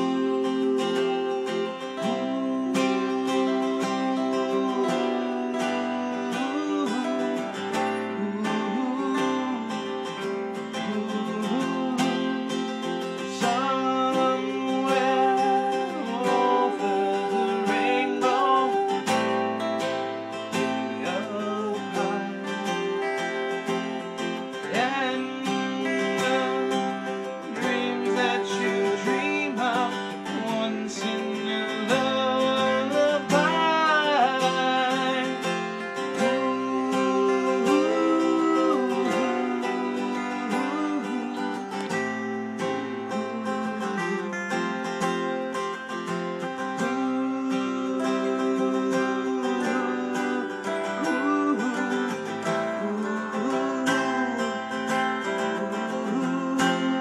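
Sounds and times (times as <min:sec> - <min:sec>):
acoustic guitar strumming: 0:00.0 - 0:57.0
man singing: 0:00.0 - 0:57.0
second guitar: 0:00.0 - 0:57.0.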